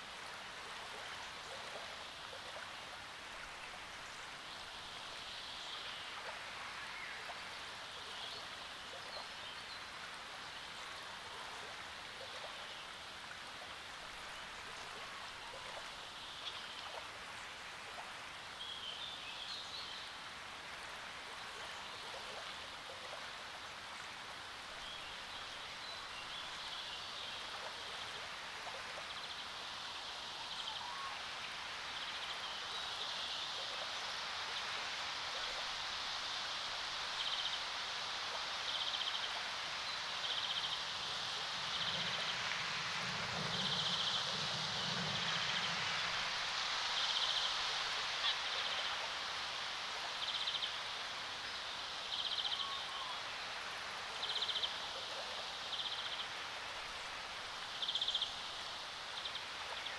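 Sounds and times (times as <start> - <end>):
waves lapping at the shore: 0.0 - 59.9.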